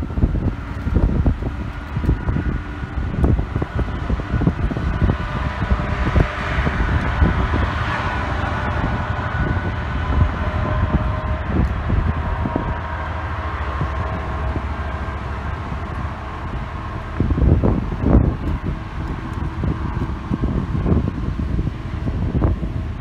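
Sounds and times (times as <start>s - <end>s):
diesel locomotives rumbling: 0.0s - 23.0s
wind buffeting microphone: 0.0s - 23.0s.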